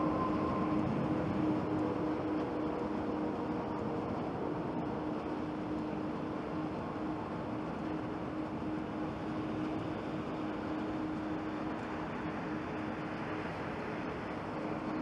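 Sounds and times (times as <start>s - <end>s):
faint constant hum: 0.0s - 15.0s
jet engines rumbling: 0.0s - 15.0s.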